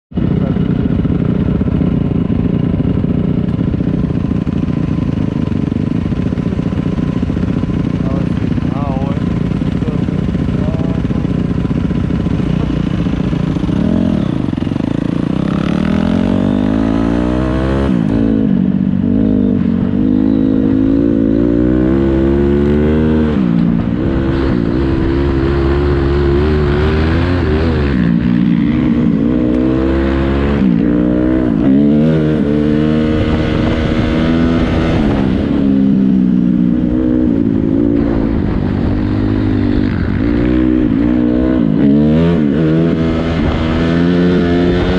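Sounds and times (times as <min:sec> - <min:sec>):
motocross bike engine revving: 0:00.2 - 0:44.9.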